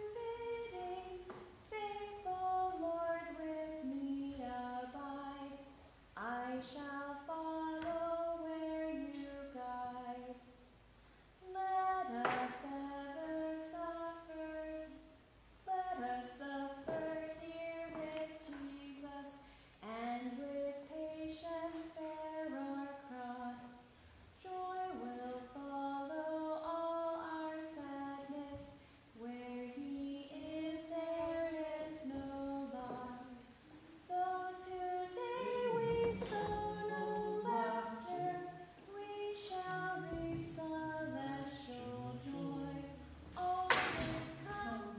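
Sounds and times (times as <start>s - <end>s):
woman singing a hymn: 0.0s - 10.5s, 11.4s - 44.9s.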